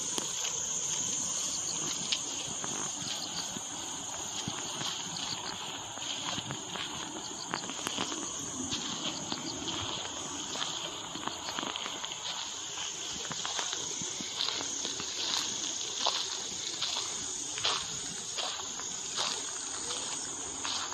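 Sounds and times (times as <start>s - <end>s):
footsteps on a path: 0.0s - 20.9s
insects chorus: 0.0s - 20.9s.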